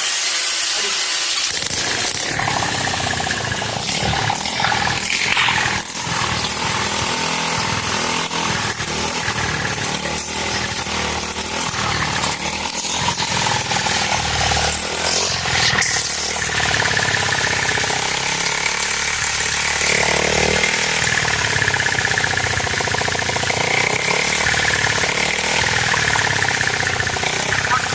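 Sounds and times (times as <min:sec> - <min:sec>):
small engine running: 0:00.0 - 0:27.9.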